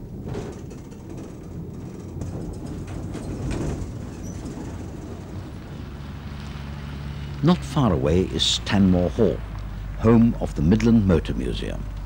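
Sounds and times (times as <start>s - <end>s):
railway car rumbling on track: 0.0s - 12.0s.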